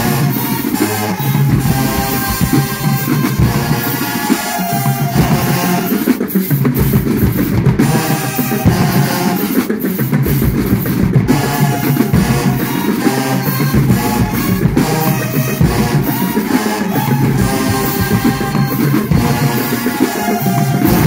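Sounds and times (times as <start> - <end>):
sustained brass phrases: 0.0 - 6.4, 7.7 - 9.8, 11.2 - 21.0
marching band playing: 0.0 - 21.0
snare and bass drums: 0.0 - 21.0.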